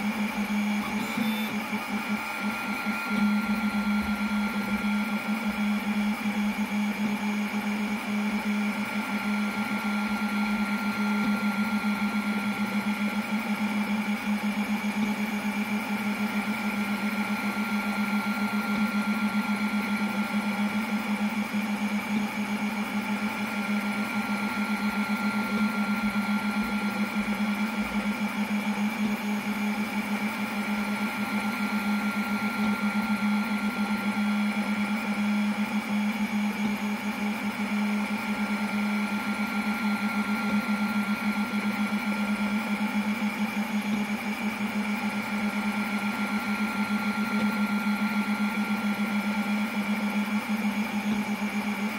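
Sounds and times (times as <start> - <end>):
laser engraver humming and whining: 0.0 - 51.9.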